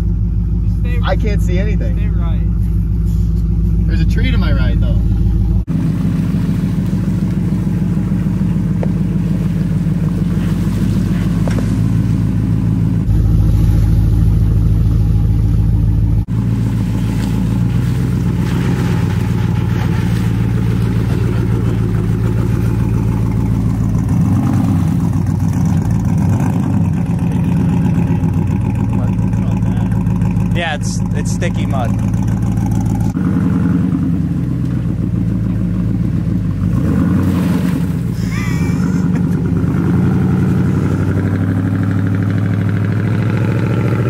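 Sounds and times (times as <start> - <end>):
pickup truck engine running: 0.0 - 44.0.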